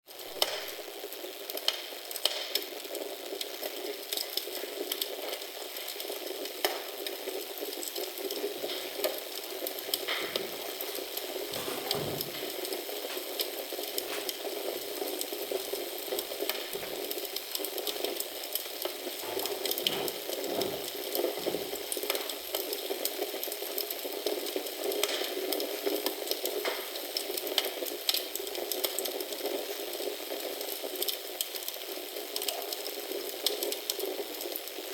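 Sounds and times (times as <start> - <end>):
wood fire crackling and popping: 0.1 - 34.9.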